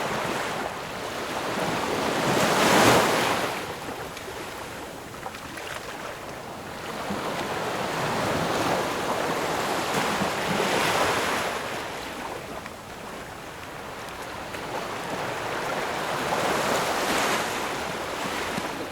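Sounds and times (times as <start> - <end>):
sea waves breaking on shore: 0.0 - 18.9.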